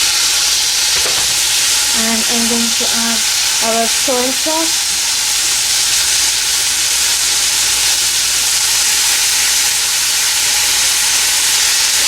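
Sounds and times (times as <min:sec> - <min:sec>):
vegetables sizzling in a hot pan: 0:00.0 - 0:12.0.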